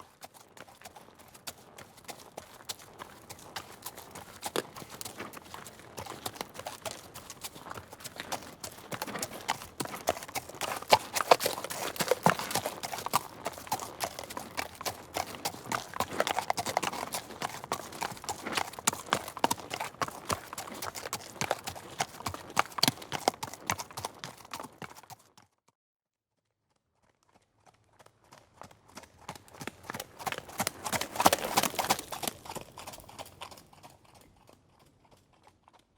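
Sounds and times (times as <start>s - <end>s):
horse hooves clip-clopping: 0.0s - 25.6s, 26.7s - 35.9s.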